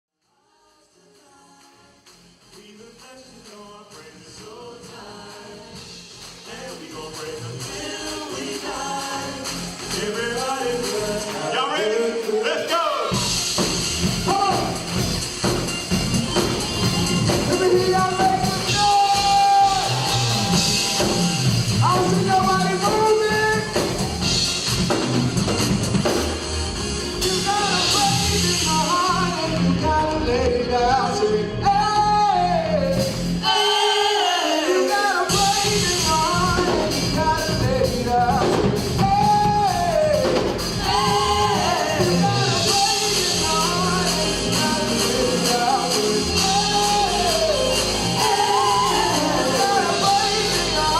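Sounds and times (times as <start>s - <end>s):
gospel singing over a band: 2.6s - 25.1s, 27.2s - 50.9s.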